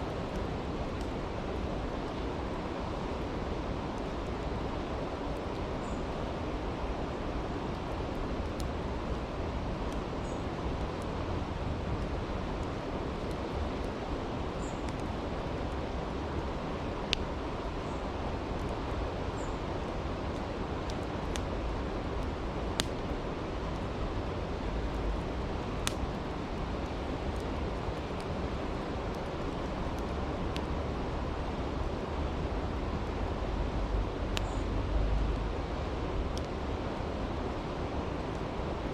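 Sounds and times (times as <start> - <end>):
campfire crackling and popping: 0.0 - 38.9
creek water rushing: 0.0 - 38.9.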